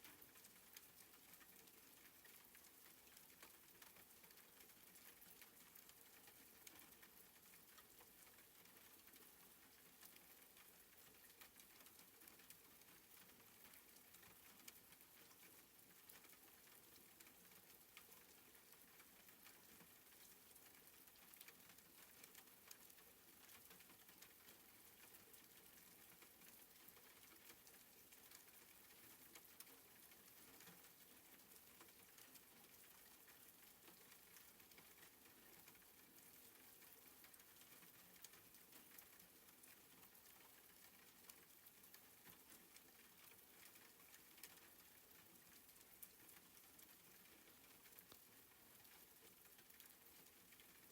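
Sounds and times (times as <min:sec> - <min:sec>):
raindrop ticks: 0:00.0 - 0:50.9
soft rain falling: 0:00.0 - 0:50.9.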